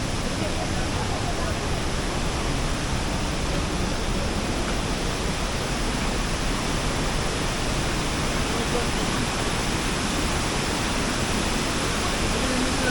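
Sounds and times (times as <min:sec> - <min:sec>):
rush of falling water: 0:00.0 - 0:12.9.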